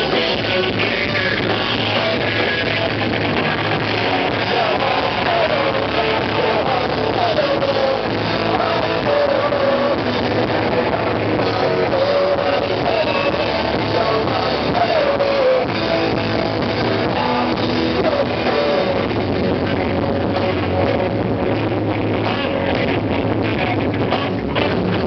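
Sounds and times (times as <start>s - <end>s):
electric guitar: 0.0s - 25.0s
person singing: 0.0s - 25.0s
rock band playing: 0.0s - 25.0s.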